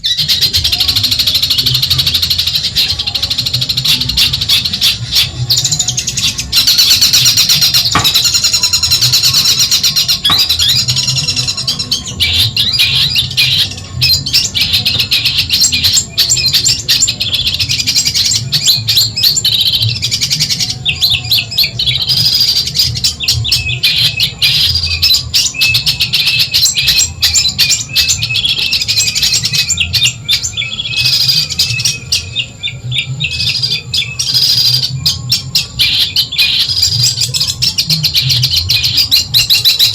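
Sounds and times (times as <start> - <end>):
shrike harsh chattering song: 0.0 - 39.9.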